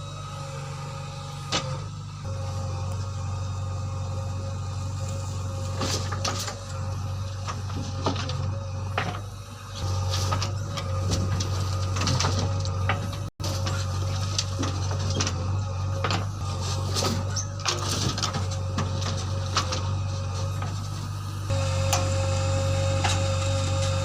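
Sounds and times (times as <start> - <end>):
constant whine: 0.0 - 24.0
diesel engine running: 0.0 - 24.0.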